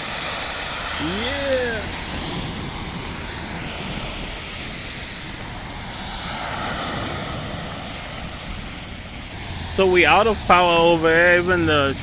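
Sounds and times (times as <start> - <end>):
car engines: 0.0 - 12.0
tyres spraying floodwater: 0.0 - 12.0.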